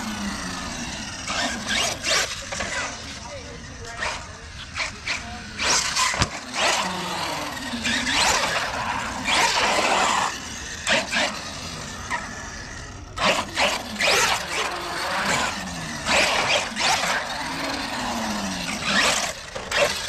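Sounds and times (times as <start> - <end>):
rc truck motor whine: 0.0 - 20.0
tyre and drivetrain noise: 0.0 - 20.0.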